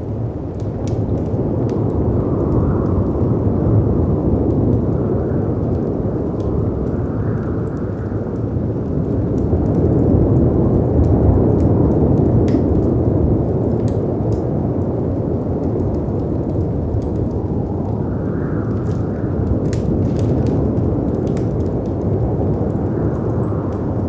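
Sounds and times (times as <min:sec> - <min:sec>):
wind roaring: 0:00.0 - 0:24.0
wood fire crackling: 0:00.0 - 0:24.0.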